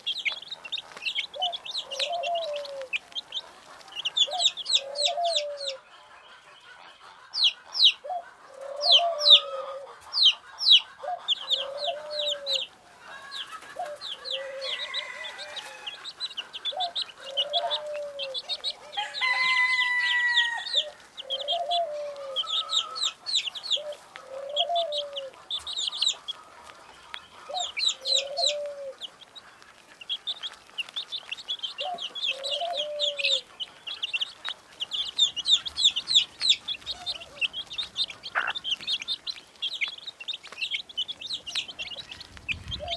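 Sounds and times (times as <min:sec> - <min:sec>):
chicks peeping: 0:00.0 - 0:42.9
hen clucking: 0:00.0 - 0:42.9.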